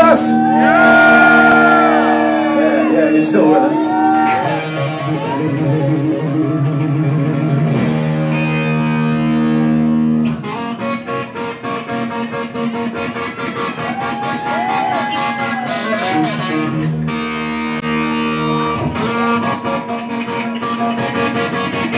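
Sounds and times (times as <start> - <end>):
distorted electric guitar: 0.0 - 21.9.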